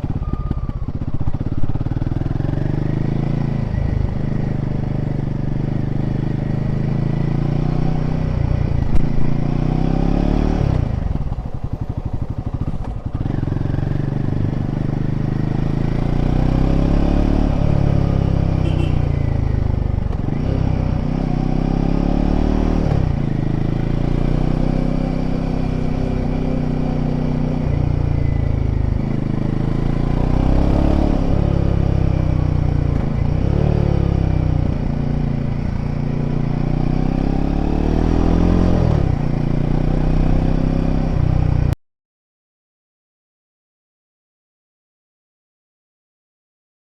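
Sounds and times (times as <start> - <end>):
motorcycle engine revving: 0.0 - 41.8.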